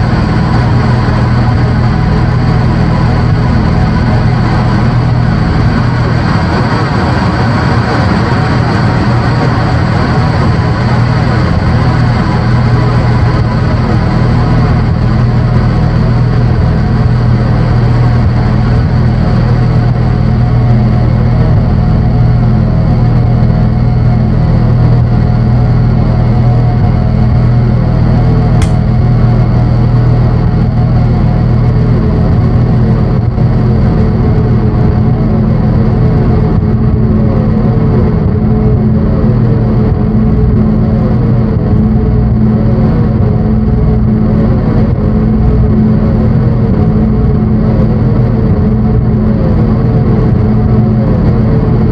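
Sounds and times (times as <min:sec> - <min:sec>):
drone synthesizer noise music: 0:09.8 - 0:51.9.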